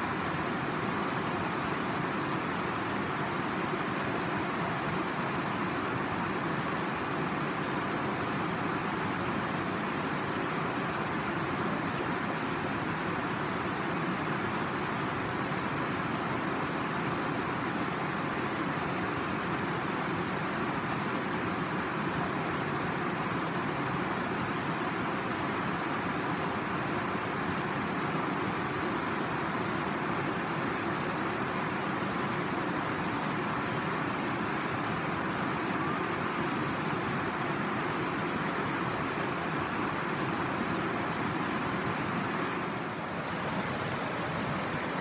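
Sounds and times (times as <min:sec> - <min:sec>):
river rushing over rocks: 0:00.0 - 0:45.0.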